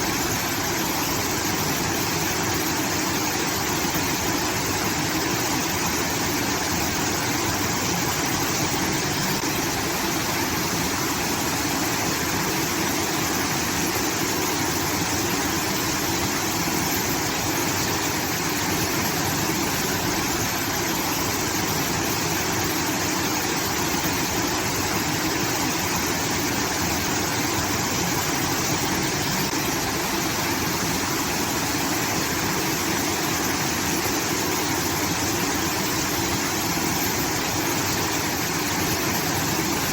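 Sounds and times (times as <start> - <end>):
water rushing from channel: 0.0 - 39.9.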